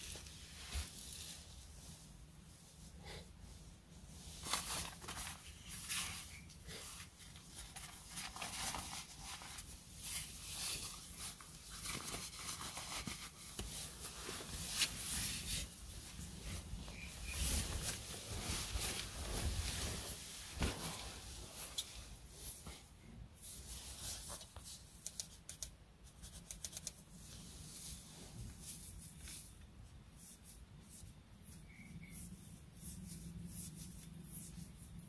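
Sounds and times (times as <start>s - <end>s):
fabric rustling and shuffling: 0.0s - 25.0s, 27.0s - 31.2s.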